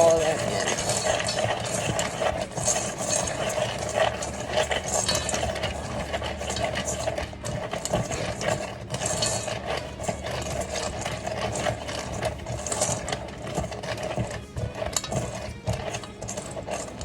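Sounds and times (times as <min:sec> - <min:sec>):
plastic knife scraping a bowl: 0:00.0 - 0:17.0.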